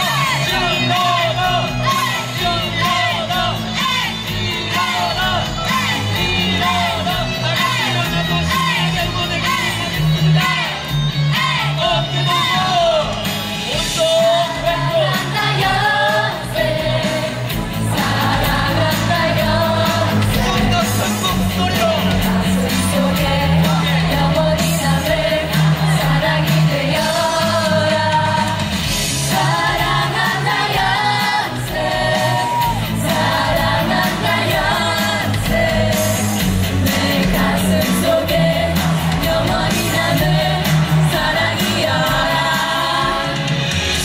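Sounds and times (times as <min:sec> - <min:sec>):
crowd shouting and whooping: 0:00.0 - 0:44.0
pop music with singing: 0:00.0 - 0:44.0.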